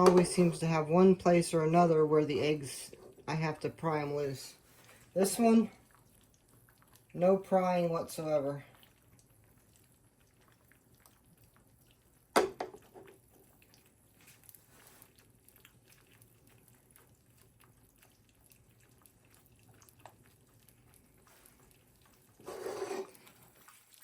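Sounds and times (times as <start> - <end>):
eggs sizzling in a pan: 0.0 - 24.0.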